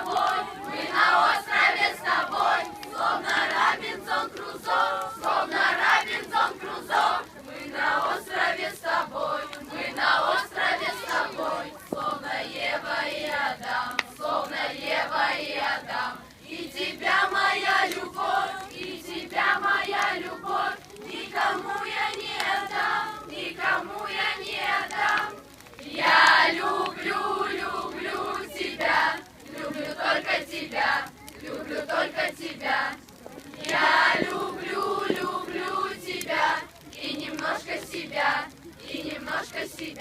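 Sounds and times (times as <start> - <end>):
children singing in chorus: 0.0 - 33.0, 33.6 - 40.0.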